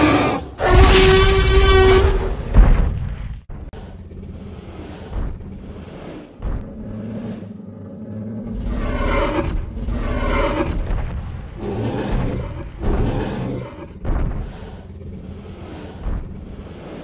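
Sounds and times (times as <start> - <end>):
dinosaur roars: 0.0 - 2.4, 3.8 - 17.0
deep rumble: 0.4 - 17.0.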